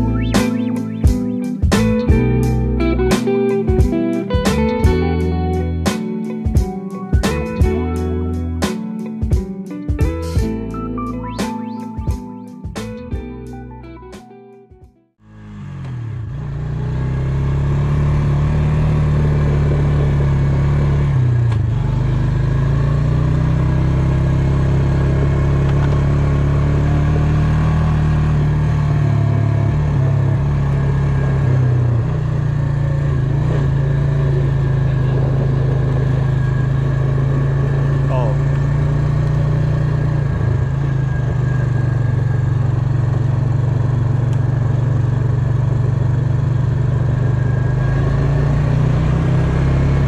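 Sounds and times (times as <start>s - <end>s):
vehicle engine running: 0.0s - 5.9s, 15.2s - 50.0s.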